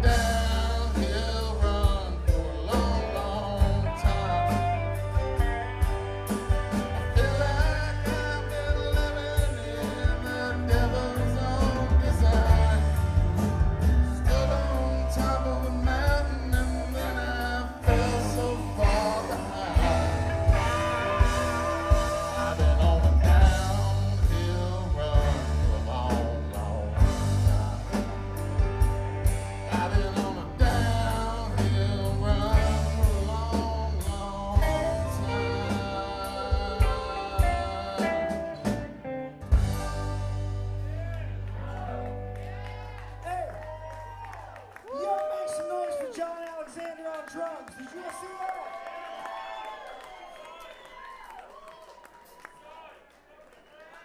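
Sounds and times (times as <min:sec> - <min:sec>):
acoustic guitar: 0:00.0 - 0:44.4
keyboards: 0:00.0 - 0:44.8
bass: 0:00.0 - 0:46.1
electric guitars: 0:00.0 - 0:46.2
drums: 0:00.0 - 0:46.8.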